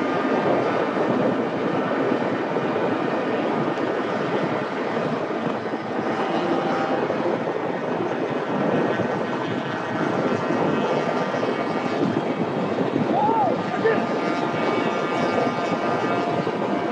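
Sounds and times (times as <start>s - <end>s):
motorcycle engines droning: 0.0s - 12.5s, 13.4s - 16.9s
wind rushing over microphone: 0.0s - 16.9s.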